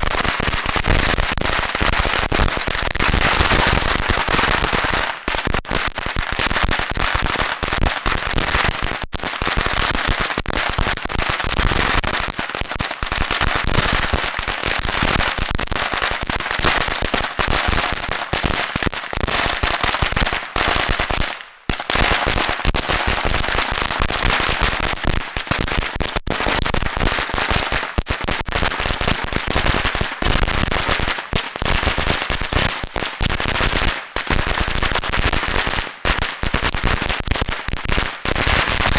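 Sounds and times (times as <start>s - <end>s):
firecrackers going off: 0.0s - 38.9s.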